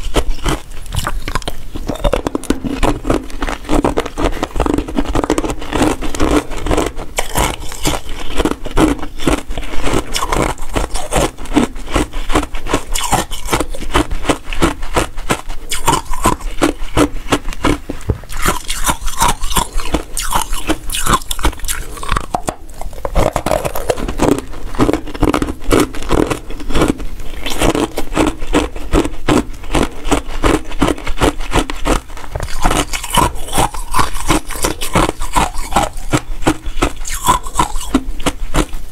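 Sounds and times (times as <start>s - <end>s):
ice crunching and crackling: 0.0s - 15.1s, 15.7s - 30.3s, 31.2s - 38.0s.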